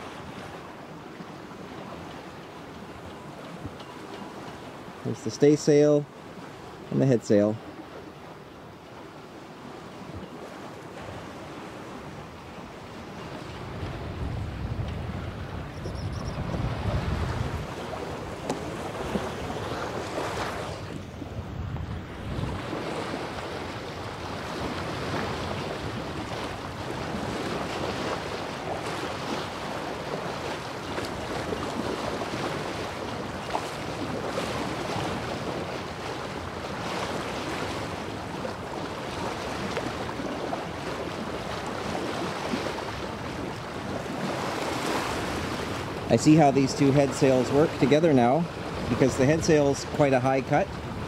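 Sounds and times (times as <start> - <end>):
water splashing along hull: 0.0 - 51.0
wind buffeting microphone: 10.0 - 51.0.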